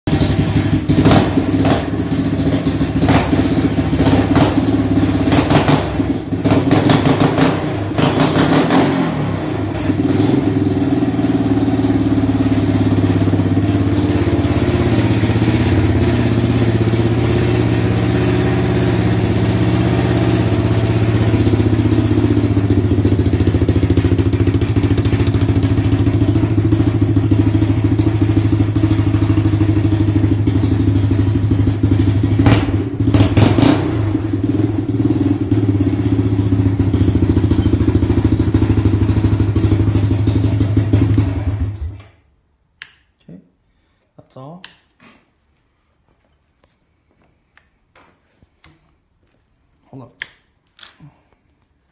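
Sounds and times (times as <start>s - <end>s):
engine revving and idling: 0.1s - 42.1s.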